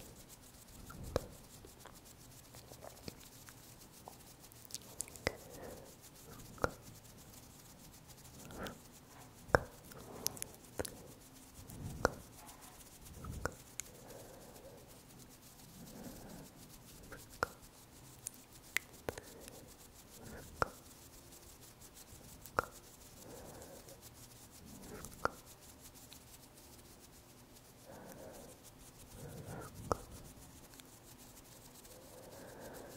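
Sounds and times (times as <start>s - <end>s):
soft hand rubbing and rustling: 0.0s - 32.9s.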